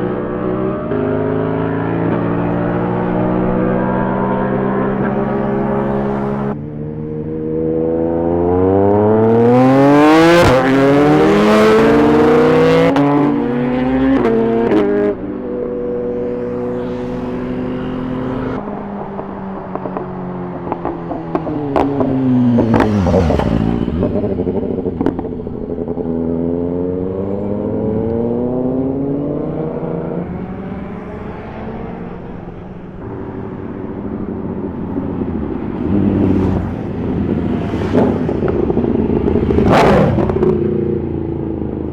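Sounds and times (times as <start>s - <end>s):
motorbike engines revving: 0.0s - 41.9s.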